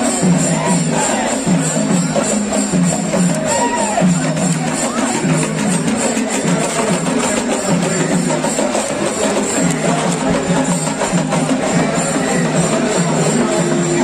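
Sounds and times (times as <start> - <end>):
fast busy drumming: 0.0 - 14.0.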